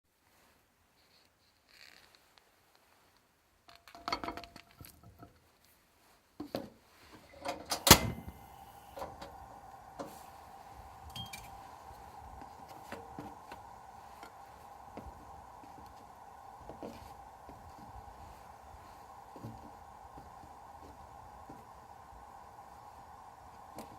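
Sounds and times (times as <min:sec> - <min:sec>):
steady hiss: 0:00.1 - 0:23.9.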